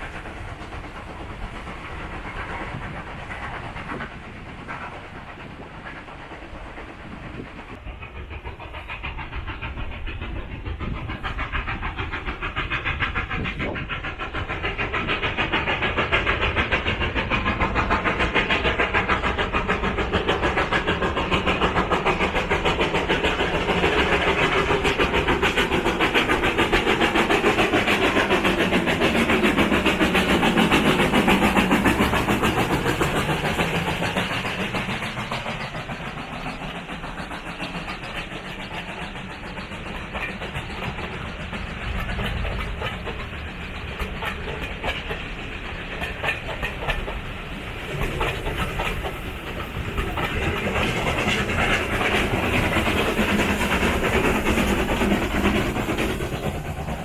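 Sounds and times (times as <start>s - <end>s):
steam train passing: 0.0s - 57.0s
wheels clicking over rail joints: 0.0s - 57.0s.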